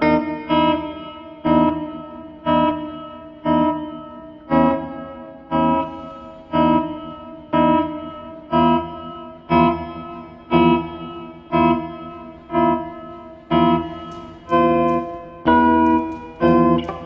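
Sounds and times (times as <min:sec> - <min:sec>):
ringing music chords: 0:00.0 - 0:17.0.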